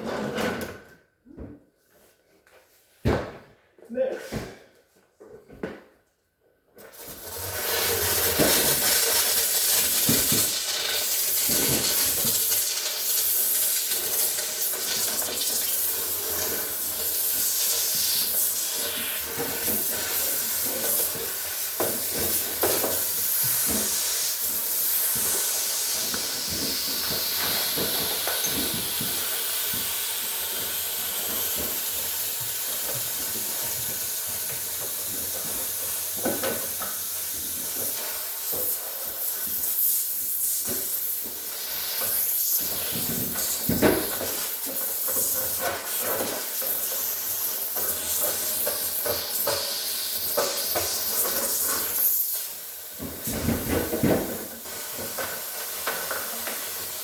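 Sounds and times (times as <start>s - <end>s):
hissing jet of steam: 6.9s - 57.0s.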